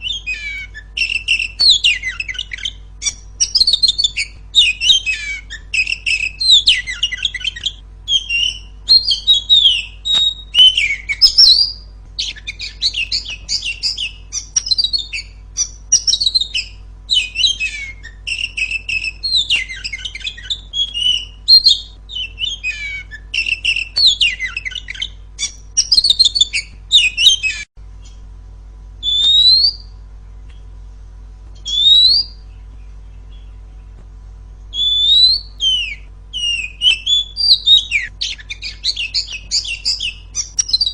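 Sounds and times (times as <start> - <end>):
single rising bird whistles: 0.0 - 28.2, 29.0 - 29.9, 31.6 - 33.7, 34.7 - 40.9
bird singing chirps and trills: 0.0 - 28.3, 29.0 - 30.8, 31.5 - 34.0, 34.6 - 40.9.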